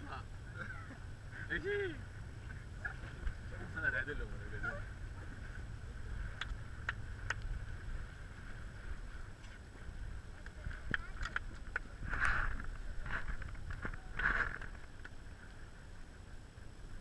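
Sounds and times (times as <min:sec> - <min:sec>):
motorboat engine rumbling: 0:00.0 - 0:17.0.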